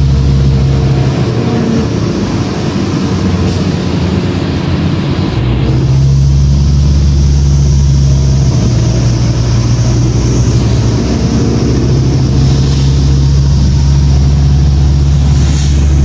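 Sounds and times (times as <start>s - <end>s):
bus diesel engine drone: 0.0s - 16.0s
road noise: 0.0s - 16.0s.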